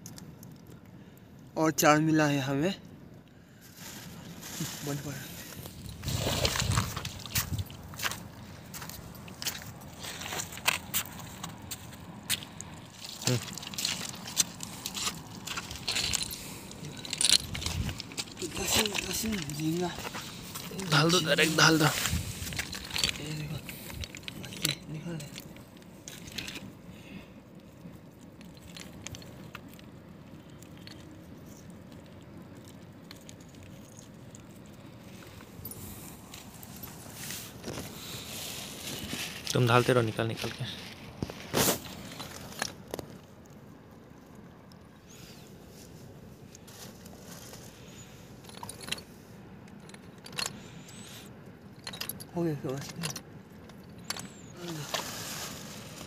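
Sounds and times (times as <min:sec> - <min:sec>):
wet net and pebbles rustling: 0:03.4 - 0:49.1, 0:54.1 - 0:56.0.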